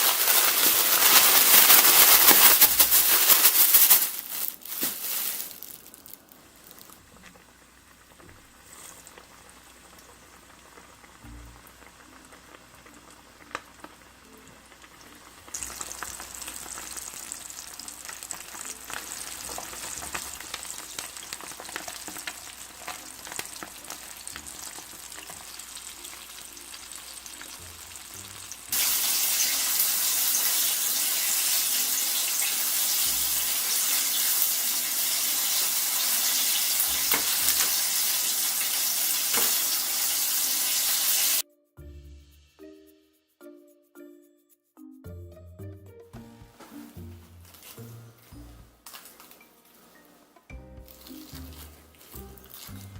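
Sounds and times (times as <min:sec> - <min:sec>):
chicken deep-frying in oil: 0:00.0 - 0:41.4, 0:50.8 - 0:52.9.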